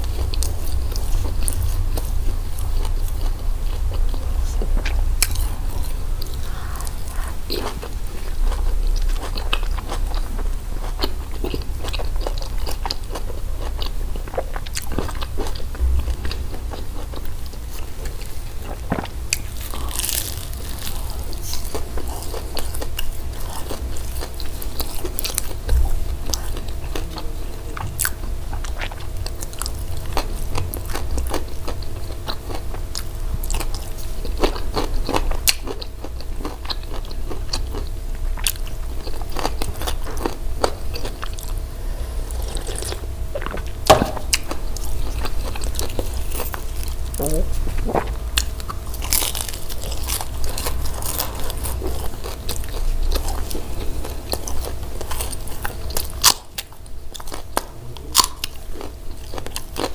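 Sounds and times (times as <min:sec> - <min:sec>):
chewing crispy bread: 0:00.0 - 0:59.9.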